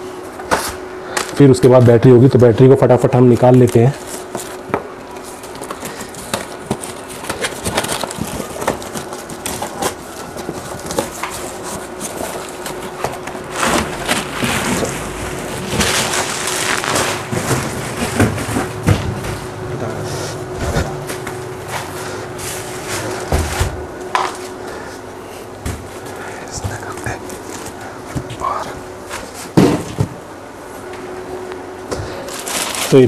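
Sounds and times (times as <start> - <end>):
faint steady hum: 0.0 - 33.0
cardboard and plastic rustling: 3.2 - 30.3, 31.9 - 33.0.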